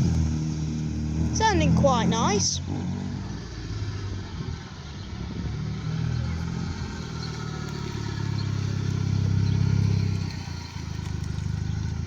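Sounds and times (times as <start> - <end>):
vehicle engine driving off: 0.0 - 12.0.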